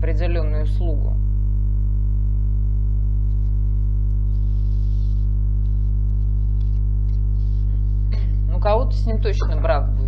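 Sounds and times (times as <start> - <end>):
low electrical mains hum: 0.0 - 10.0.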